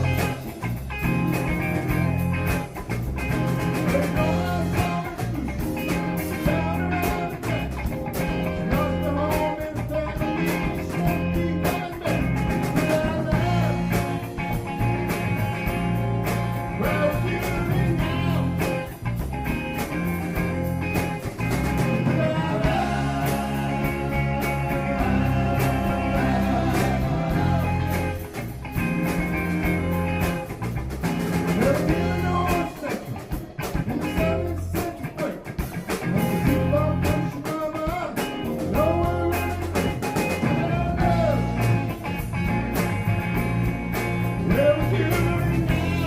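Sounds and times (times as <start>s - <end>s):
bending guitar lead line: 0.0s - 46.0s
rock band playing: 0.0s - 46.0s.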